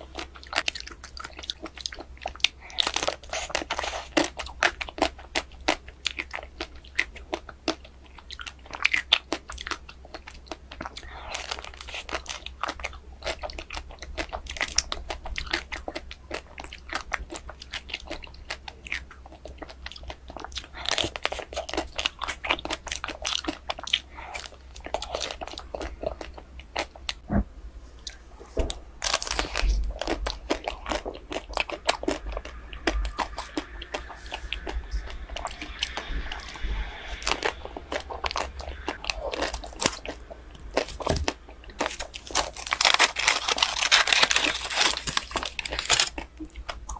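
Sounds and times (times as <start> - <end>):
crunching ice cream chewing: 0.0 - 27.2, 29.0 - 46.9.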